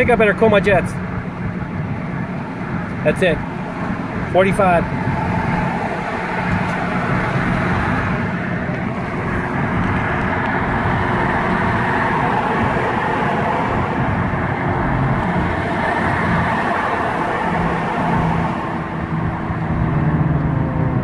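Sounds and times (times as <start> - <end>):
car engine running steadily: 0.0 - 21.0
road and tyre noise: 0.0 - 21.0.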